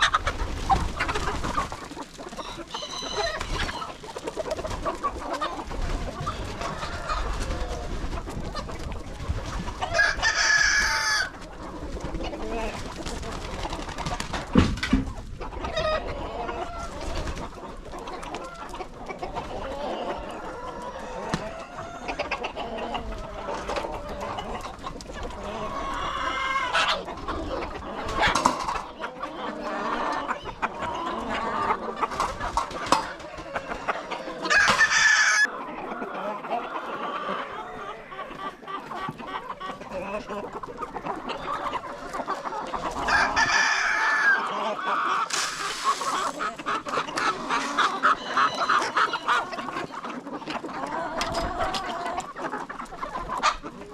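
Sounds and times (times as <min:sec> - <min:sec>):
chickens clucking and calling: 0:00.0 - 0:53.9.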